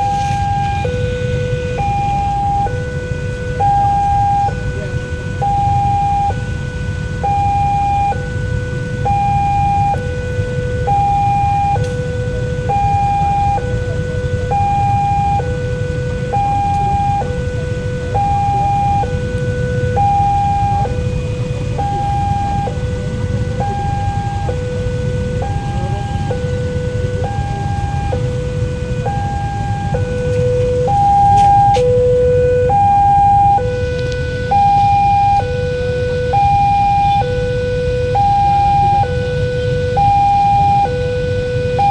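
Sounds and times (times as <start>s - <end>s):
level crossing two-tone alarm: 0.0s - 41.9s.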